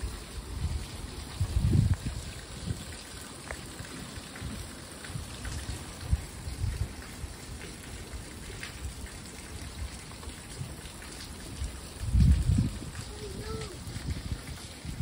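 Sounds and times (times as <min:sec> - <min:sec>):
hiss of rain: 0:00.0 - 0:15.0.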